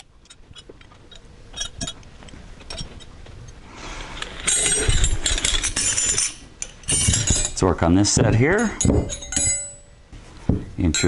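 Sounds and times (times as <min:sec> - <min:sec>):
metal wrenches clinking: 0:00.0 - 0:03.1, 0:04.2 - 0:10.0
tools clattering: 0:00.0 - 0:03.2, 0:04.1 - 0:10.0.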